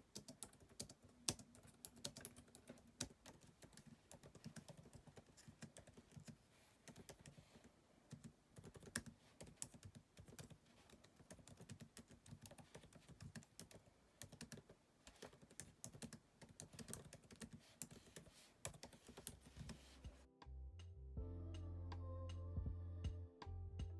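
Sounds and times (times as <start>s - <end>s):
laptop keyboard typing: 0.0s - 20.0s.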